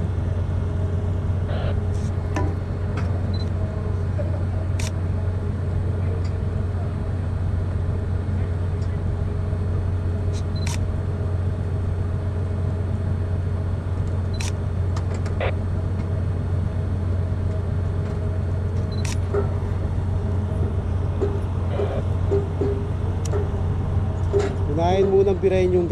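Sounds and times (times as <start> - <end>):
low machinery hum: 0.0 - 25.9.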